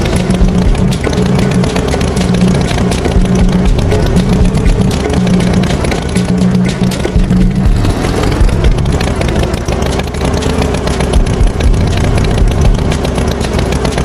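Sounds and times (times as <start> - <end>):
motor engine running loudly: 0.0 - 14.0.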